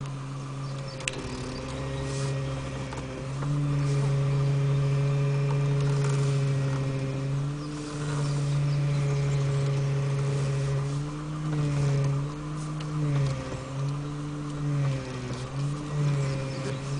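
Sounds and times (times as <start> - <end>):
steering rack humming: 0.0 - 16.9.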